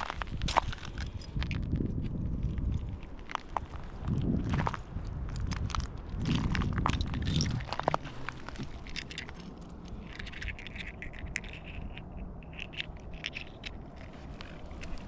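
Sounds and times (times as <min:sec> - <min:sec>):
seashells scraping and clinking: 0:00.0 - 0:04.0, 0:05.7 - 0:15.0
low steady rumble: 0:00.0 - 0:15.0.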